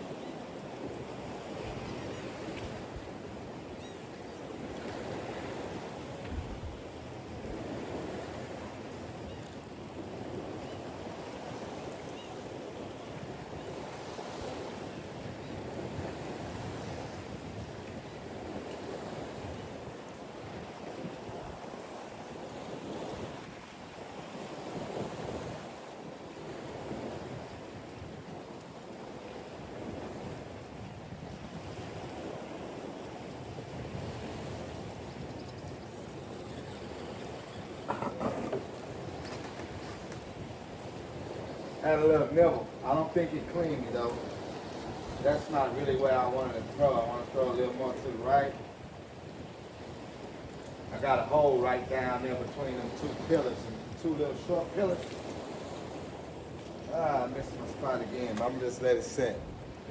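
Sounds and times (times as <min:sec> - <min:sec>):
waves washing: 0:00.0 - 0:59.9
wind gusting on microphone: 0:00.0 - 0:59.9.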